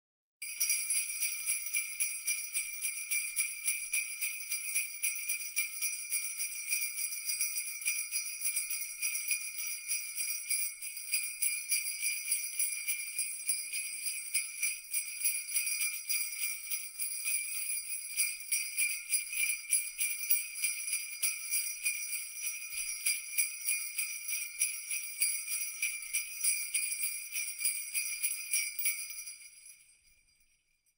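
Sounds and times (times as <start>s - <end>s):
jingle bells shaken: 0.4s - 30.9s.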